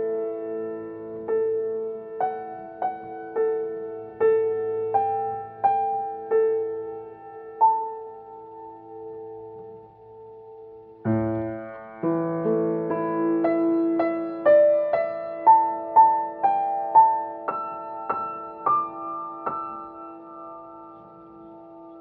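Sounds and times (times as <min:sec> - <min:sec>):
upright piano improvisation: 0:00.0 - 0:22.0.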